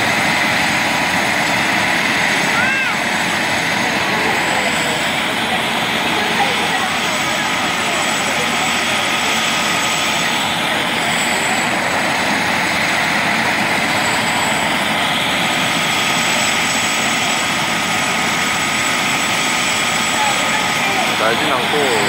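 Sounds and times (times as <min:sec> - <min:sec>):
helicopter rotor rushing: 0:00.0 - 0:22.0
helicopter turbine whine: 0:00.0 - 0:22.0.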